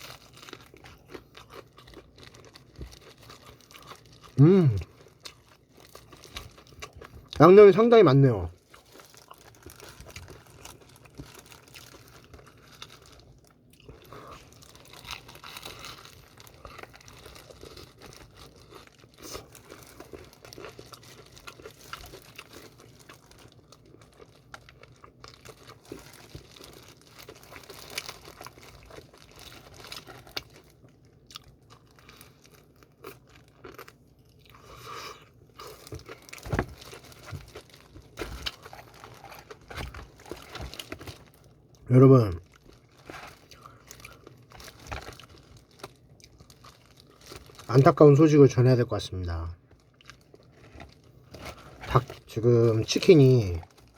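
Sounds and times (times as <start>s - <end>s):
chewing crunchy fried chicken: 0.0s - 53.9s.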